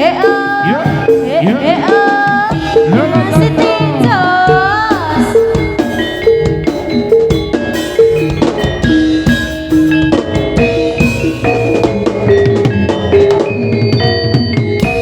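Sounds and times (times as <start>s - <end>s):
drums beating: 0.0s - 15.0s
metallophone notes: 0.0s - 15.0s
sliding melodic line: 0.0s - 15.0s.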